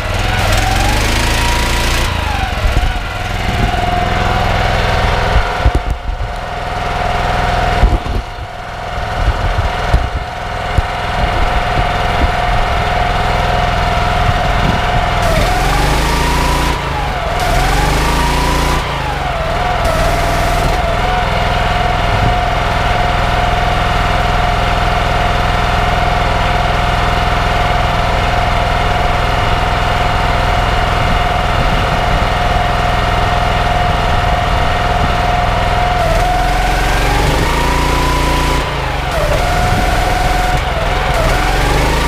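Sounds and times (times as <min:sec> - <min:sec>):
pressure washer engine: 0:00.0 - 0:42.0.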